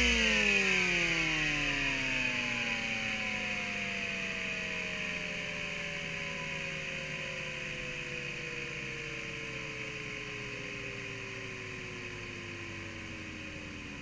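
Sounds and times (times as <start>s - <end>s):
hard drive whine spinning down: 0.0s - 14.0s.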